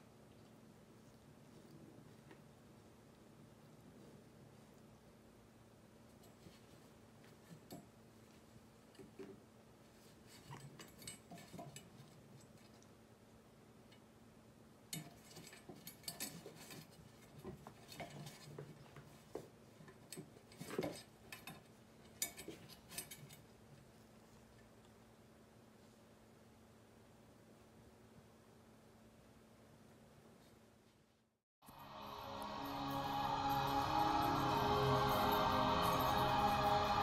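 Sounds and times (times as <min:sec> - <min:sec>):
cat grooming and rolling on rug: 0:00.0 - 0:31.2
low steady hum: 0:00.0 - 0:37.0.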